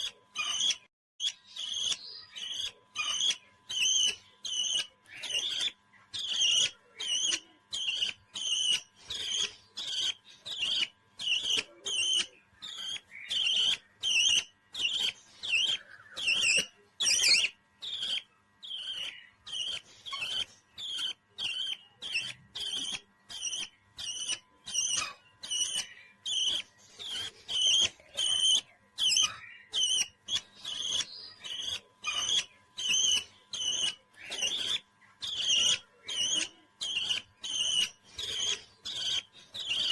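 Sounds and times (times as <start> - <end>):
parrot chirping: 0.0 - 39.9.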